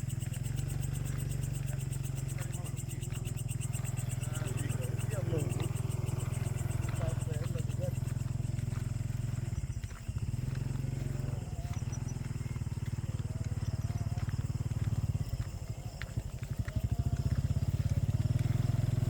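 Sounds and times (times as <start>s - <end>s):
small engine throbbing: 0.0s - 19.0s.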